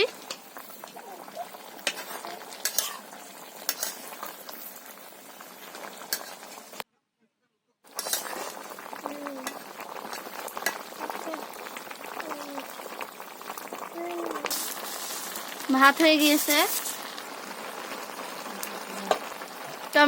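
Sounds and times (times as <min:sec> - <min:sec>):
curry sizzling and bubbling in a pan: 0:00.0 - 0:06.8, 0:07.9 - 0:20.0.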